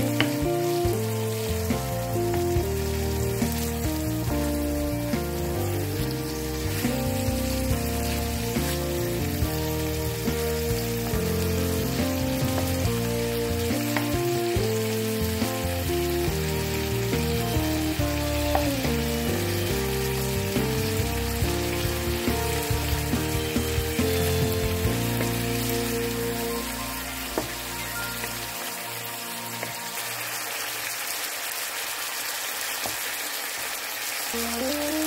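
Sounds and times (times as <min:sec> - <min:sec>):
background music: 0:00.0 - 0:30.6, 0:34.4 - 0:35.0
chicken sizzling in hot oil: 0:00.0 - 0:35.0.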